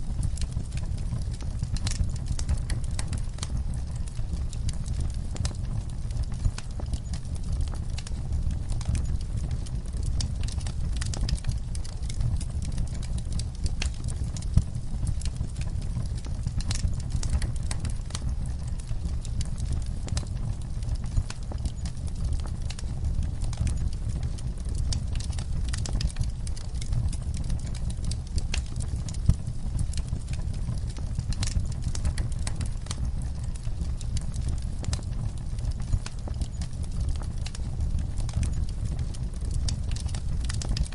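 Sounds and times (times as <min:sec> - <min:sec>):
flames rumbling: 0:00.0 - 0:40.9
campfire pops and snaps: 0:00.2 - 0:40.9.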